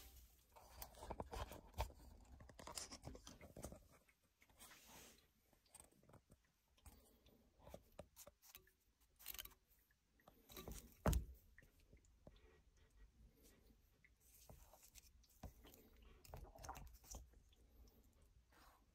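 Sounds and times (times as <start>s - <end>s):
small handling clicks and rustles: 0.0s - 18.5s.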